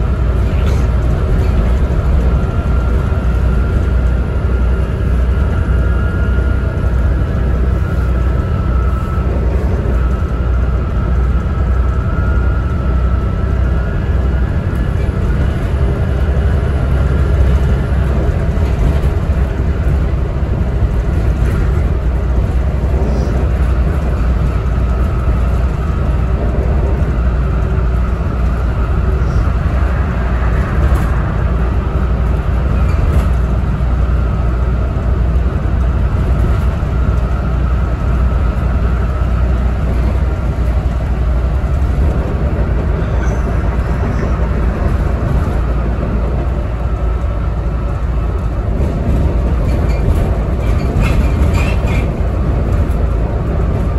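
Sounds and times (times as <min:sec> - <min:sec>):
diesel bus engine drone: 0:00.0 - 0:53.9
road noise: 0:00.0 - 0:53.9.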